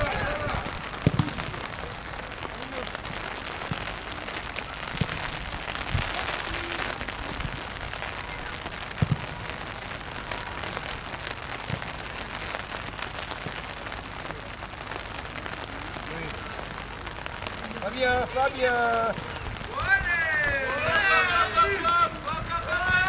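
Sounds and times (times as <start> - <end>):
hissing outdoor noise: 0.0 - 23.0.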